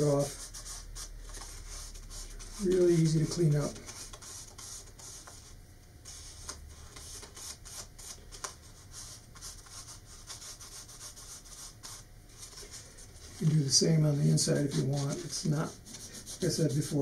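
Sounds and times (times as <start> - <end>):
fingertips rubbing paper: 0.0 - 17.0.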